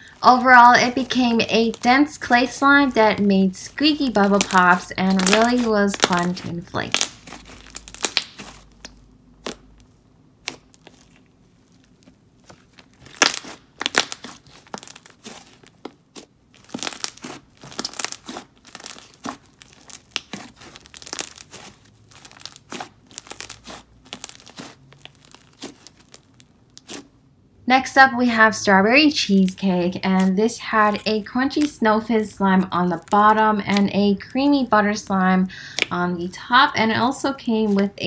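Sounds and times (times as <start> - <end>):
hands squishing clay slime: 0.0 - 27.2, 29.5 - 34.7, 35.6 - 38.0.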